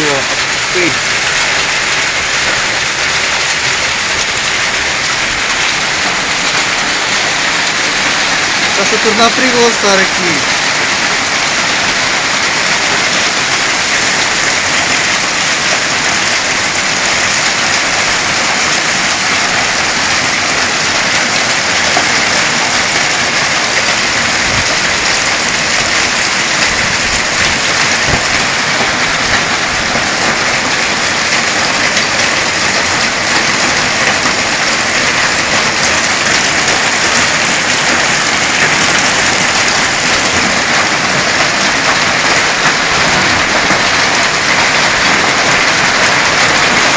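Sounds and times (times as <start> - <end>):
hail pelting hard surfaces: 0.0 - 46.9
low thumps of large hailstones: 0.0 - 46.9.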